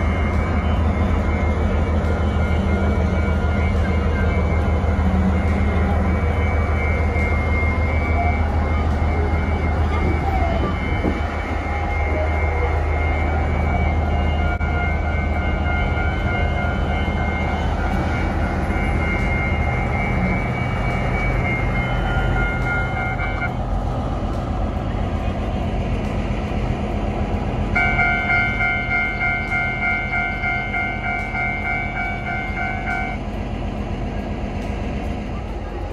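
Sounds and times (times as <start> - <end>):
locomotive engine hum: 0.0 - 35.9
steady high-pitched tone: 0.0 - 35.9.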